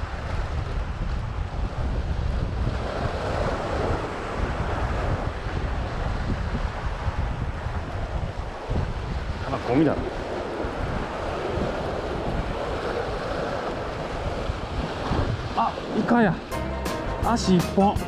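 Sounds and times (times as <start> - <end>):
wind buffeting microphone: 0.0 - 16.5
rough surf: 0.8 - 18.0.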